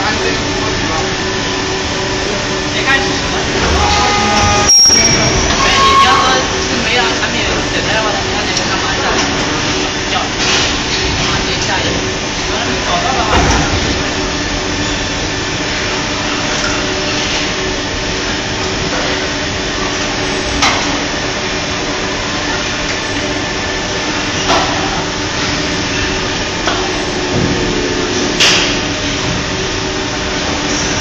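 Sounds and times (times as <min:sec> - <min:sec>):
constant hum: 0:00.0 - 0:31.0
industrial machines running: 0:00.0 - 0:31.0.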